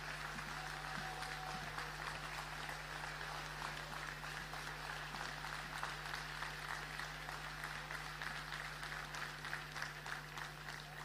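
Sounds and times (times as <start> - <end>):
audience applauding: 0.0 - 11.0
low electrical hum: 0.0 - 11.0.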